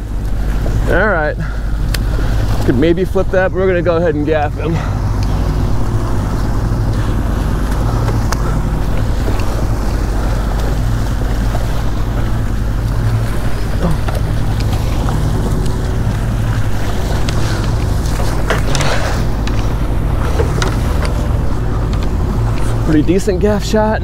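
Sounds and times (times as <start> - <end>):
outboard motors humming: 0.0 - 24.0
water rushing in boat wake: 0.0 - 24.0
wind on microphone: 0.0 - 24.0.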